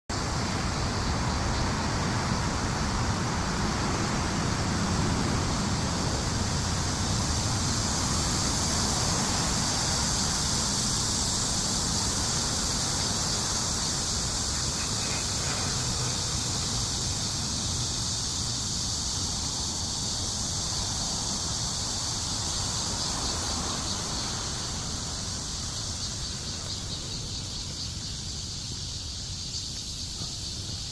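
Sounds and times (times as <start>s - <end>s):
road traffic rumbling: 0.1s - 30.8s
cicadas singing: 0.1s - 30.9s.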